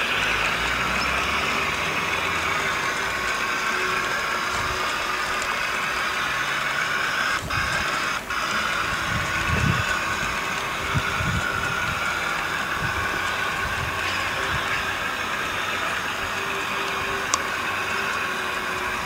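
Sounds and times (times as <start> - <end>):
model train wheels whirring: 0.0 - 19.0.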